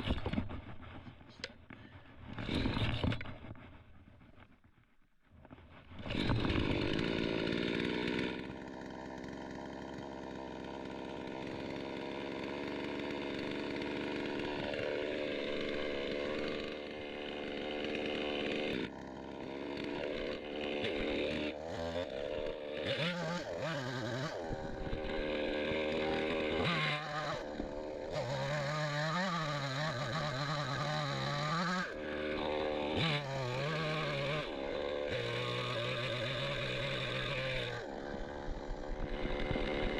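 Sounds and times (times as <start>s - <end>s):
chainsaw cutting wood: 0.0s - 4.5s, 5.4s - 39.9s.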